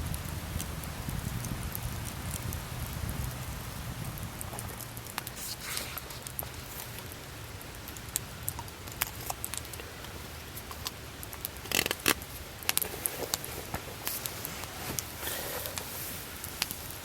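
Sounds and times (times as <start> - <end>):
campfire crackling and popping: 0.0 - 17.0
low fire rumble: 0.0 - 17.0.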